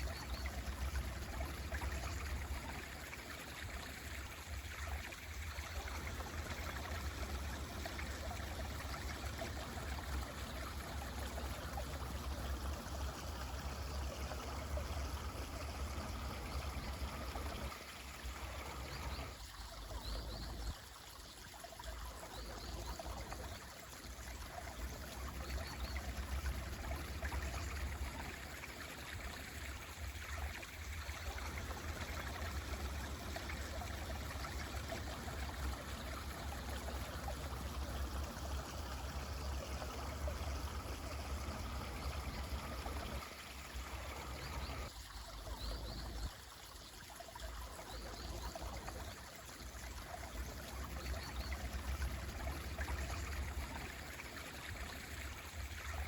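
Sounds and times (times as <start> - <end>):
mountain stream running: 0.0 - 56.0.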